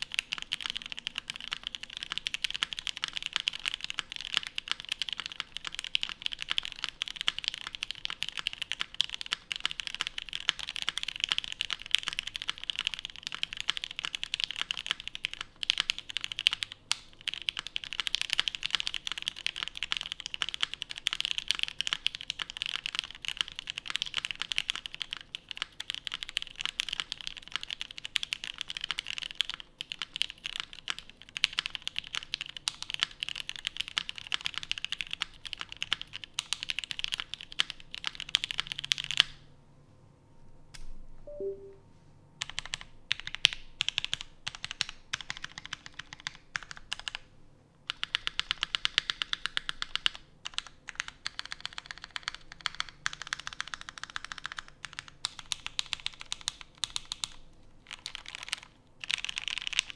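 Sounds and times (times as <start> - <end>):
mechanical keyboard typing: 0.0 - 39.4, 42.4 - 47.3, 47.9 - 59.9.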